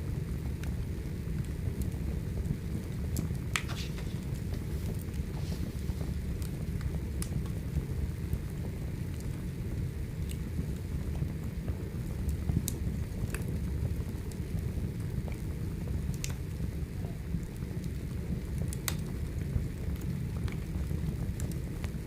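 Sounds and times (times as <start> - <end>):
fire crackles and pops: 0.0 - 22.0
wood fire rumbling: 0.0 - 22.0.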